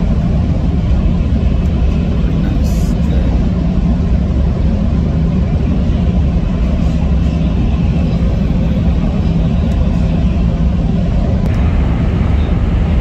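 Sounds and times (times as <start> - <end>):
train rumbling in motion: 0.0 - 13.0.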